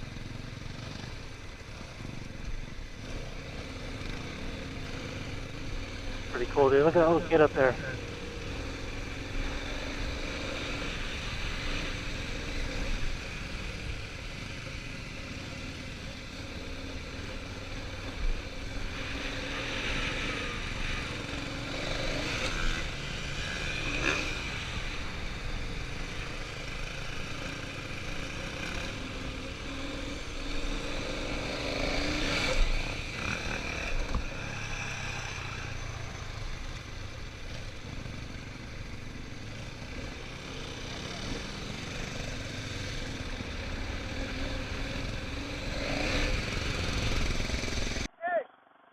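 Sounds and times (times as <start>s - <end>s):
distant dirt bike engines revving: 0.0s - 48.1s.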